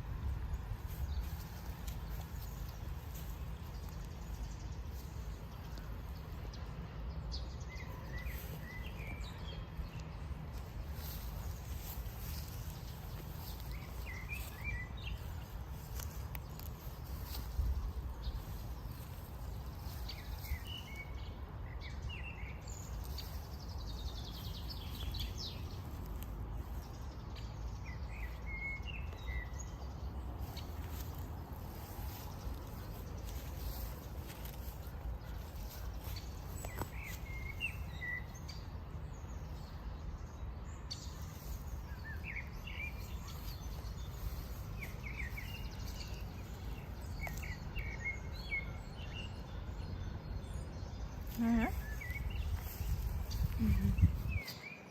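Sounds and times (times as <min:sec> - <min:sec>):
steady low rumble: 0:00.0 - 0:54.4
small birds chirping: 0:00.0 - 0:54.9.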